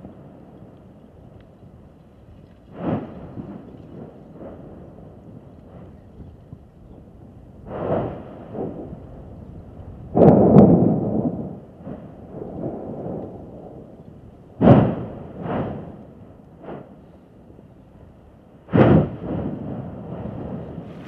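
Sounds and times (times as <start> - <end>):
volcanic explosions: 0.0 - 21.0.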